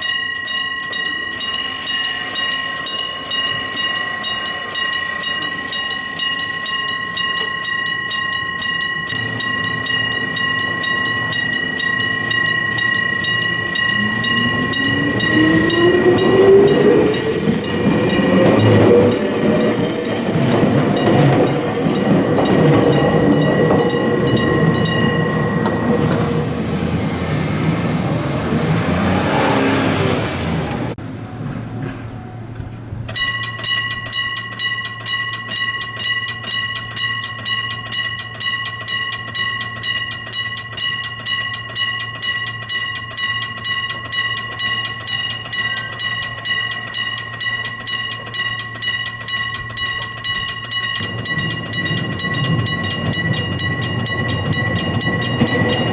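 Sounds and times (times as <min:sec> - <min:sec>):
train running past: 0:00.0 - 0:34.2, 0:37.0 - 0:55.9
level crossing electric bell: 0:00.0 - 0:55.9.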